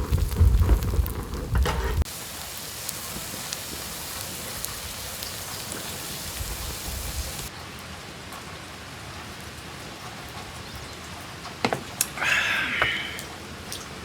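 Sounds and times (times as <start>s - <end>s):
raindrops ticking: 0.0s - 7.5s, 10.1s - 14.0s
steady rain falling: 0.0s - 14.0s.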